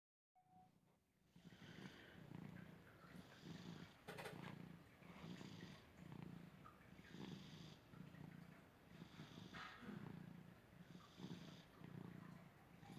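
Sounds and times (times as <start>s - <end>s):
cat snoring: 1.2s - 12.9s.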